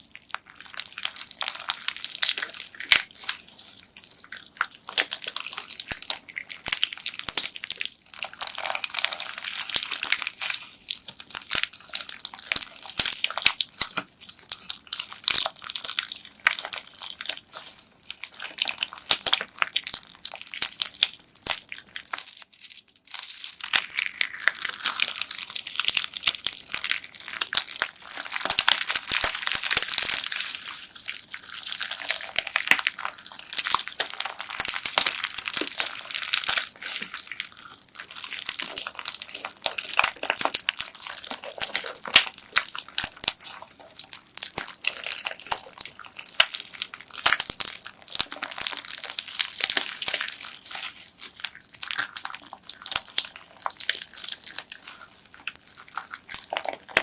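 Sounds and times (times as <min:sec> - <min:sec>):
bead-filled slime crackling: 0:00.0 - 0:57.0.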